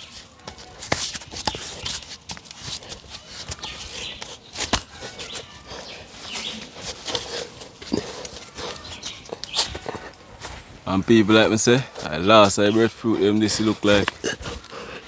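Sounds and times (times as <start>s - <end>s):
hands and feet scraping bark: 0.0s - 15.0s.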